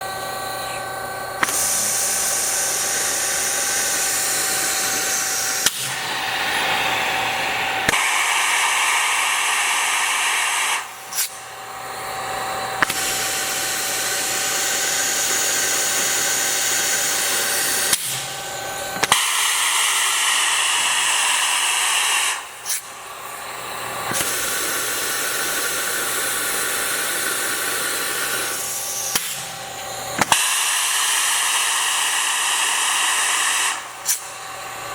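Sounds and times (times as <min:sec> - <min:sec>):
lathe machinery and air hiss: 0:00.0 - 0:34.9
steady whine: 0:00.0 - 0:34.9.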